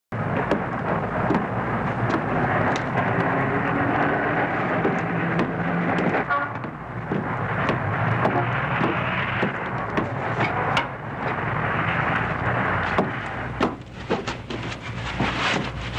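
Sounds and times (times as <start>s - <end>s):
low rumbling: 0.1s - 15.9s
heavy rain: 0.2s - 13.7s.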